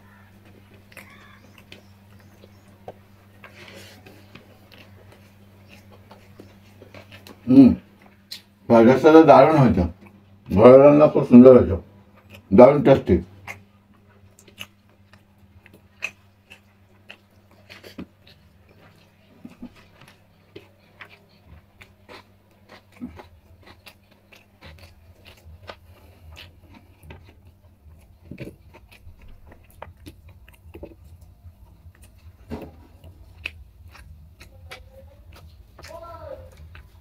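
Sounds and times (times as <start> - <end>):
fingers mixing rice on a plate: 0.0 - 8.5, 13.4 - 37.0
faint low hum: 0.0 - 37.0
chewing and mouth clicks: 0.1 - 8.5, 9.9 - 10.4, 12.1 - 12.5, 13.3 - 37.0.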